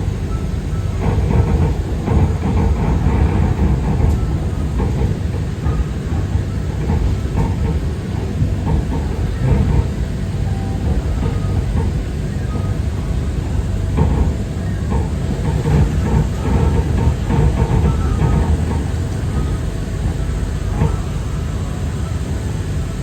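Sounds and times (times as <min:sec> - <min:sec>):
monorail train rumbling: 0:00.0 - 0:23.0.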